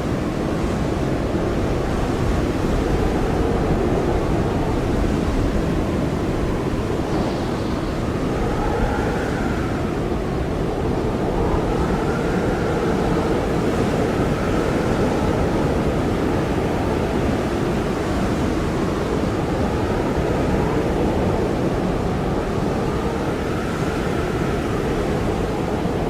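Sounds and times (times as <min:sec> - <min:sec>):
faint wind whistle: 0:00.0 - 0:26.0
strong wind blowing: 0:00.0 - 0:26.0.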